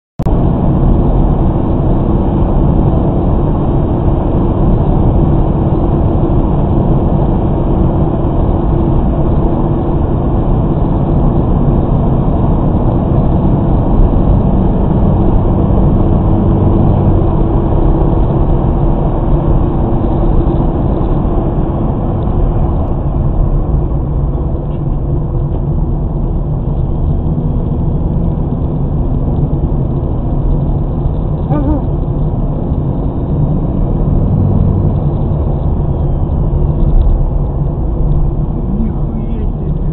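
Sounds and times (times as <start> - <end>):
car engine and tyre rumble: 0.2 - 39.9.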